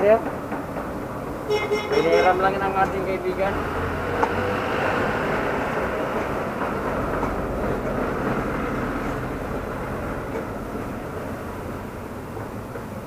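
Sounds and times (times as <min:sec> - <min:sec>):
passing motor vehicle rumble: 0:00.0 - 0:13.0.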